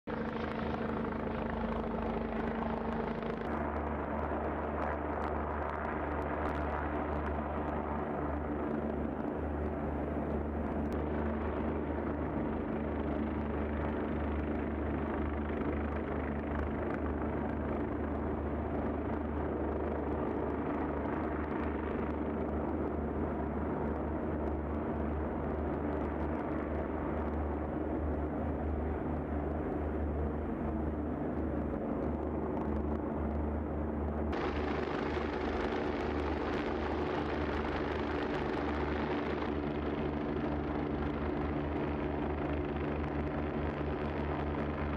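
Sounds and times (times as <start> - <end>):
helicopter rotor drone: 0.1 - 44.9.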